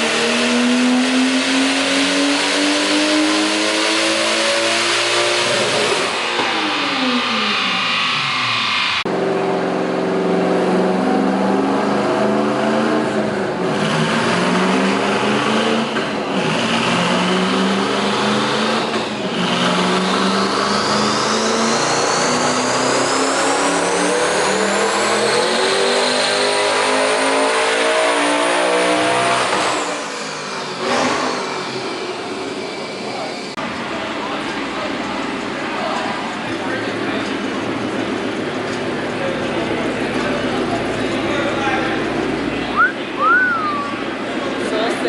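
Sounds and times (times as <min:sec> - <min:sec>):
car engine revving at full throttle: 0:00.0 - 0:45.0.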